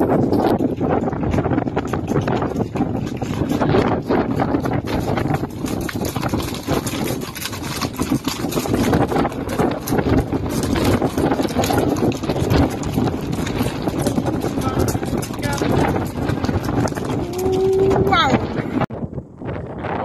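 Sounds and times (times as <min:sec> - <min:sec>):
horses galloping on gravel: 0:00.0 - 0:18.9.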